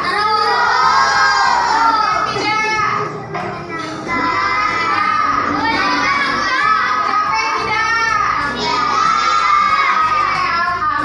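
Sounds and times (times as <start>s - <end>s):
children's voices singing: 0.0s - 11.0s.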